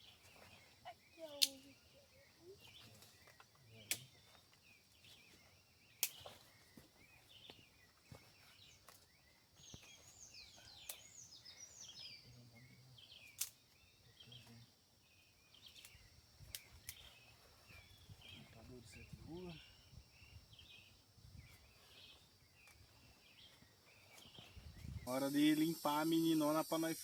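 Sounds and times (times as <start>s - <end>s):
forest birds chirping: 0.0s - 27.0s.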